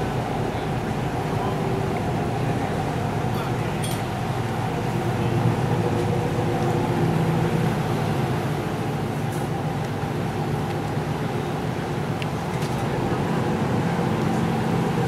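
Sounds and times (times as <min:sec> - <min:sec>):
boat engine drone: 0:00.0 - 0:15.0
wind and water hiss: 0:00.0 - 0:15.0.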